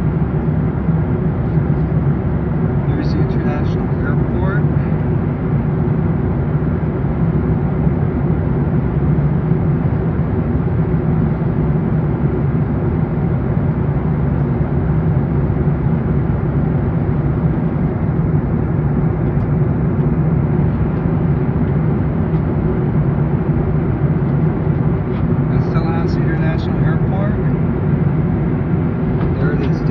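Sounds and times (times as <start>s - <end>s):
airliner cabin drone: 0.0s - 29.9s.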